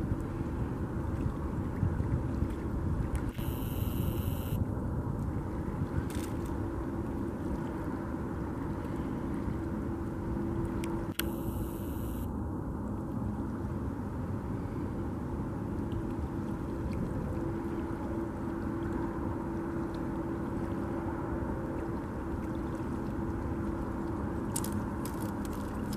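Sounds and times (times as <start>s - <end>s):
faint steady hum: 0.0s - 25.9s
low outdoor rumble: 0.0s - 25.9s.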